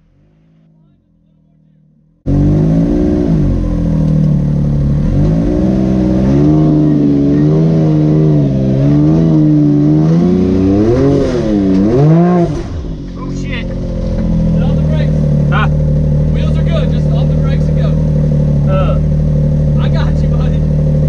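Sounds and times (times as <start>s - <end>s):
utility vehicle engine revving: 0.0s - 21.0s.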